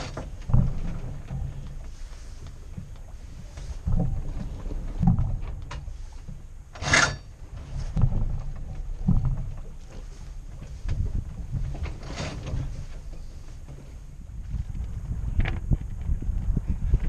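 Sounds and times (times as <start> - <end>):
water noise: 0.0 - 15.6
hull thumping on waves: 0.0 - 17.0
wind: 0.0 - 17.0.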